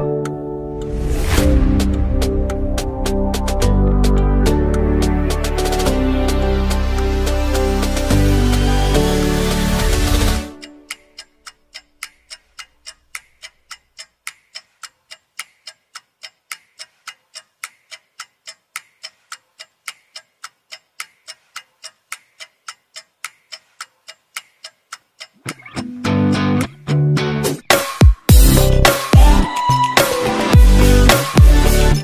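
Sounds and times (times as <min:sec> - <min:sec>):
clock ticking: 0:00.0 - 0:26.8.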